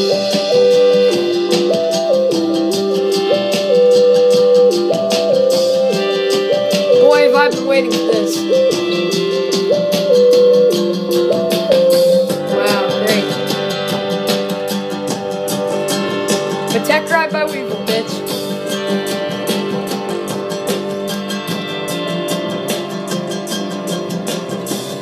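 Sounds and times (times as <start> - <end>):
sustained notes: 0.0 - 20.6
plucked and strummed guitar: 0.0 - 25.0.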